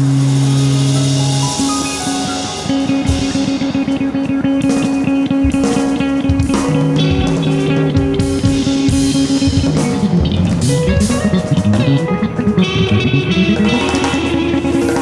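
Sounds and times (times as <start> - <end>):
bass guitar line: 0.0 - 15.0
drum kit groove: 0.0 - 15.0
electric guitar chords: 0.0 - 15.0.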